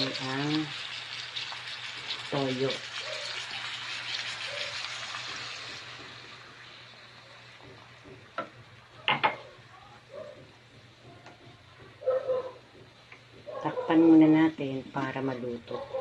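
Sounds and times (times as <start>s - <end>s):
fish and onions sizzling in pan: 0.0s - 16.0s.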